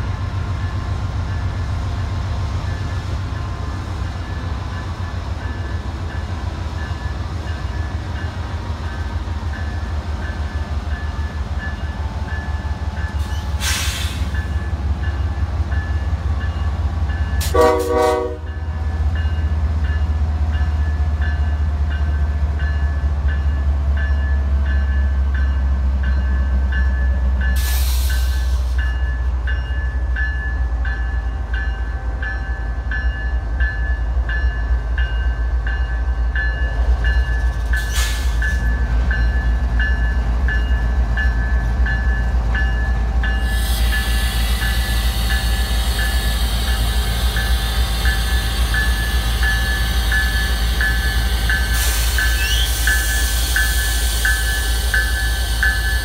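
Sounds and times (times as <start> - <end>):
diesel locomotive engines rumbling: 0.0 - 56.0
locomotive bell ringing: 2.7 - 13.3, 14.3 - 56.0.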